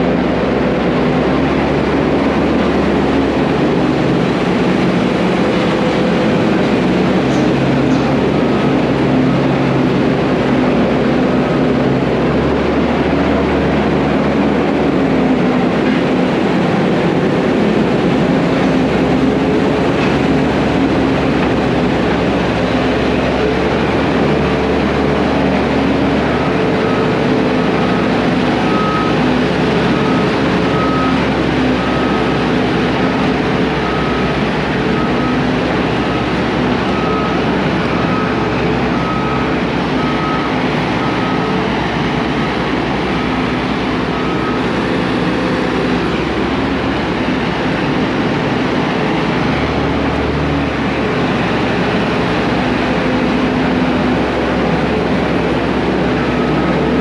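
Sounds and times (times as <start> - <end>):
heavy diesel equipment running: 0.0 - 57.0.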